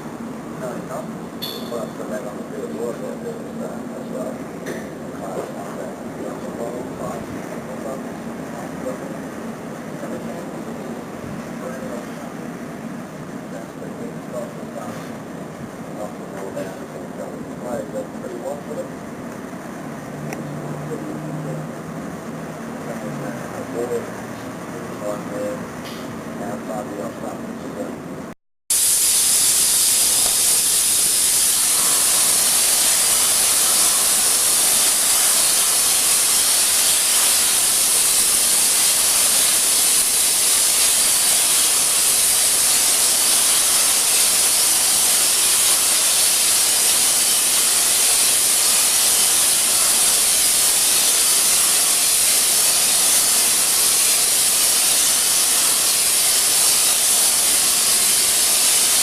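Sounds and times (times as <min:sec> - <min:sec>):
loud steady hiss: 0:00.0 - 0:59.0.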